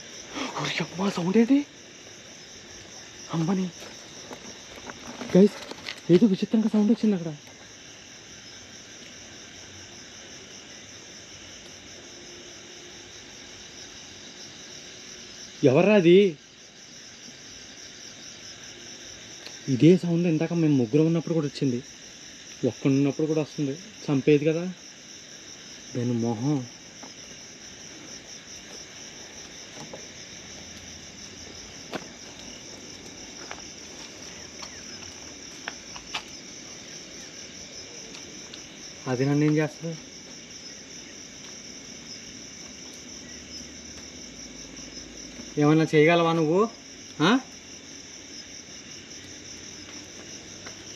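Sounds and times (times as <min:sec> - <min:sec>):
crickets trilling: 0:00.0 - 0:50.9
night insects chirring: 0:00.0 - 0:50.9.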